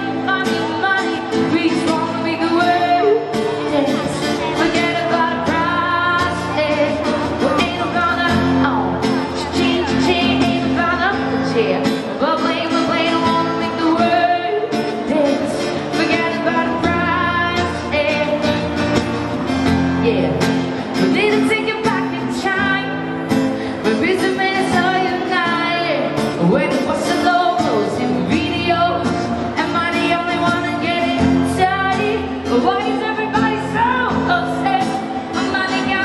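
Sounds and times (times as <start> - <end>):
acoustic guitar: 0.0 - 36.0
woman singing pop song: 0.0 - 36.0.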